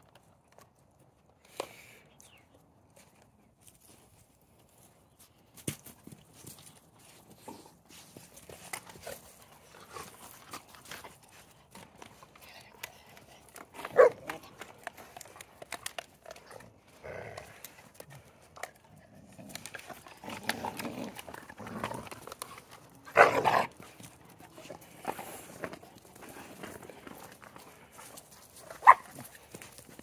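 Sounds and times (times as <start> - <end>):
dogs scuffling: 3.6 - 30.0.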